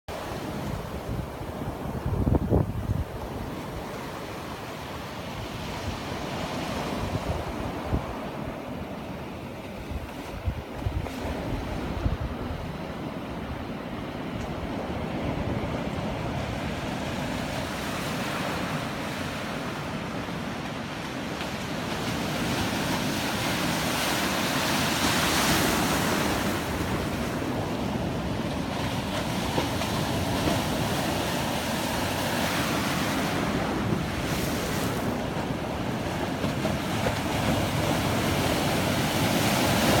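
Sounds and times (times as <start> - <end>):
waves breaking: 0.1 - 40.0
wind buffeting microphone: 0.2 - 40.0.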